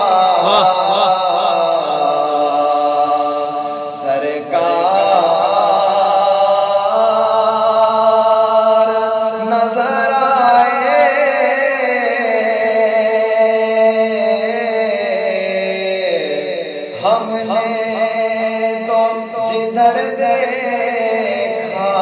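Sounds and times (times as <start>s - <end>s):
man chanting with ornamented pitch: 0.0s - 22.0s.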